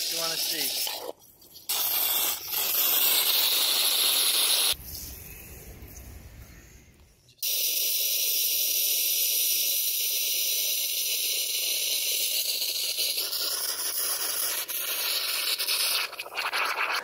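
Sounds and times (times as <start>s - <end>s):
lawn sprinkler hissing: 0.0s - 4.8s, 7.4s - 16.8s.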